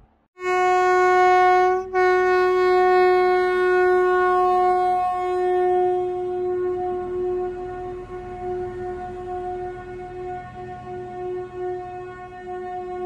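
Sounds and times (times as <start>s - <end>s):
diesel locomotive horn: 0.4s - 13.0s.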